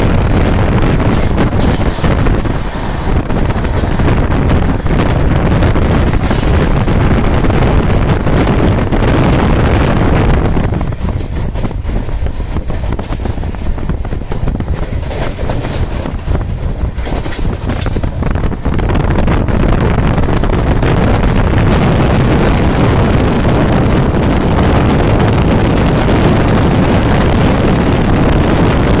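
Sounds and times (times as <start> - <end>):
fast train rumble: 0.0 - 29.0
wind buffeting microphone: 0.0 - 29.0.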